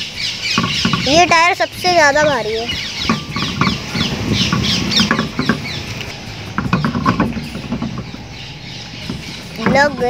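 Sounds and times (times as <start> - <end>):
birds chirping: 0.0 - 10.0
steel rim scraping against hub: 0.0 - 10.0.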